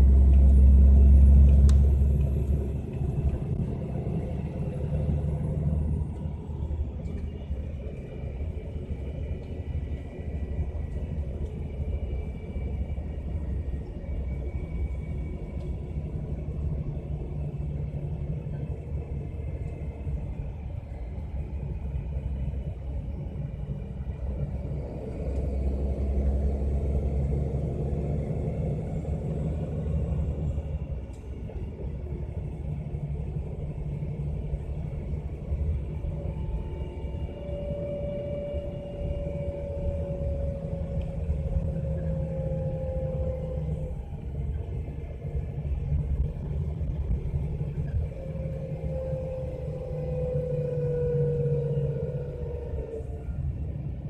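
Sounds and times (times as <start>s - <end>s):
faint whine: 0.0s - 54.0s
low driveline rumble: 0.0s - 54.0s.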